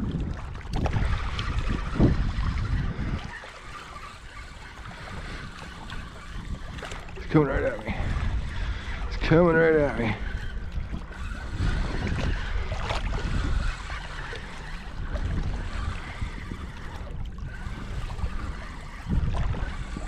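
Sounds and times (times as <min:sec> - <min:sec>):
choppy water: 0:00.0 - 0:20.0
wind buffeting microphone: 0:00.0 - 0:20.0.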